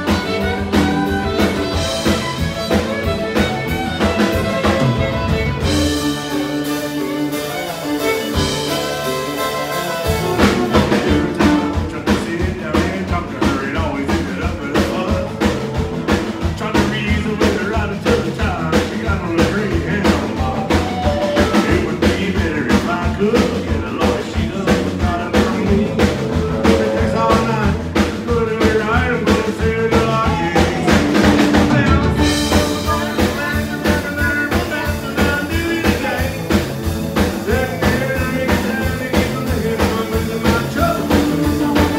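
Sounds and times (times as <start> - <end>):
fiddle: 0.0 - 41.9
live country band playing: 0.0 - 41.9.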